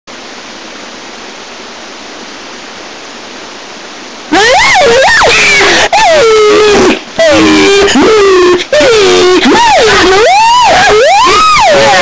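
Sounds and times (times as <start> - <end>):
steady hiss: 0.1 - 12.0.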